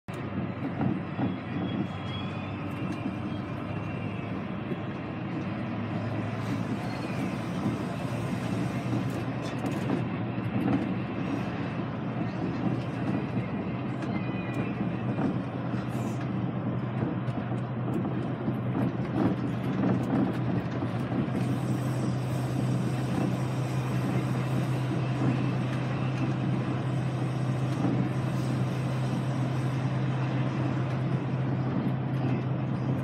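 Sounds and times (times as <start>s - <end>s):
diesel bus engine running: 0.0s - 33.0s
road and tyre noise: 0.0s - 33.0s.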